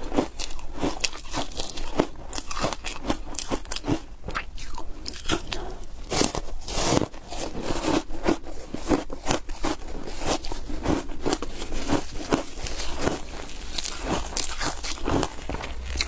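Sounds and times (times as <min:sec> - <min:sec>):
chewing ice with crisp crunches: 0:00.0 - 0:16.0
crunching bite into ice: 0:00.0 - 0:16.0.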